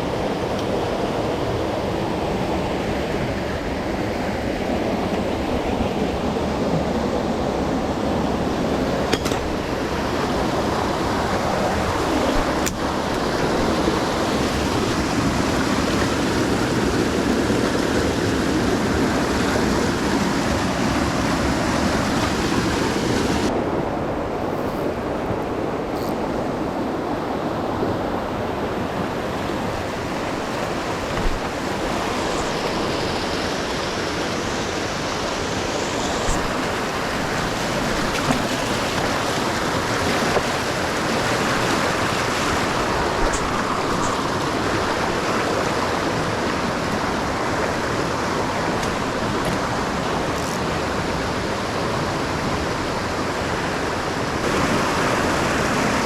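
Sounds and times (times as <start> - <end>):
mountain torrent rushing: 0.0 - 56.0.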